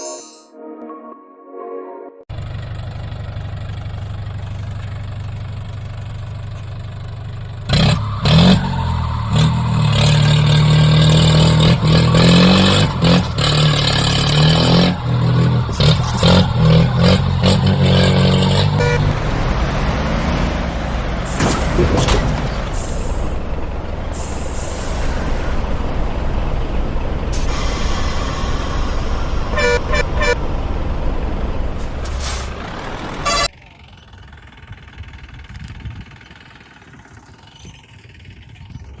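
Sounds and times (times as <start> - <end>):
tractor engine running: 2.3 - 39.0.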